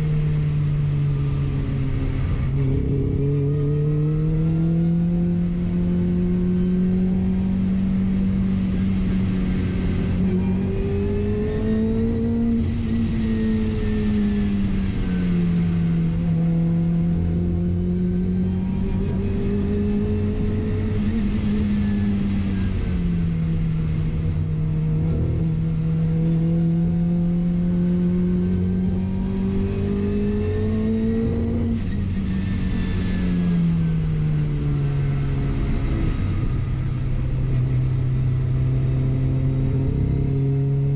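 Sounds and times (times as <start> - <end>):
car engine driving: 0.0 - 40.9.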